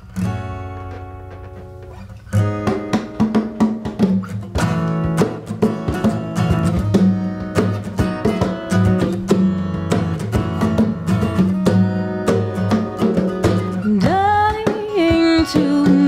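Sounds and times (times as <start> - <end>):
acoustic guitar strumming: 0.0 - 16.0
congas played by hand: 0.1 - 16.0.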